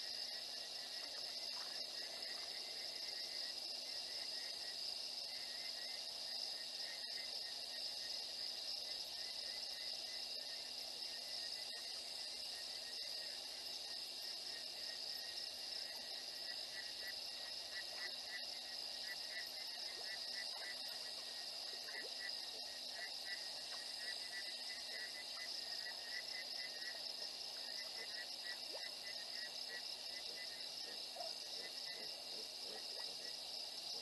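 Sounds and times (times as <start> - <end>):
insects buzzing: 0.0 - 34.0
insects chirping: 0.0 - 34.0.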